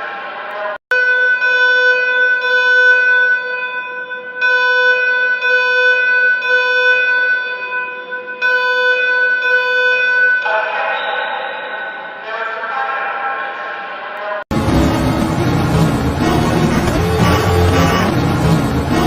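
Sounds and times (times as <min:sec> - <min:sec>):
electronic alarm tone: 0:00.9 - 0:12.2, 0:14.5 - 0:19.0.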